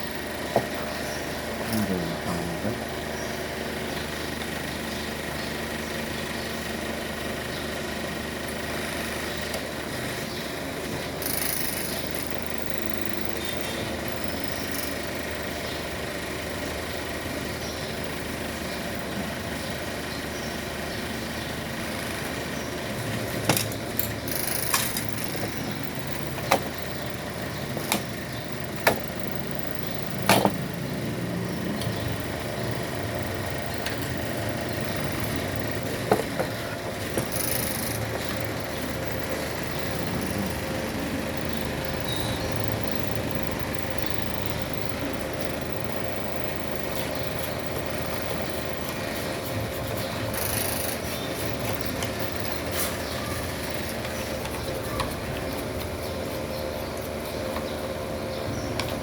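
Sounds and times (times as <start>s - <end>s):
background hum: 0.0s - 59.0s.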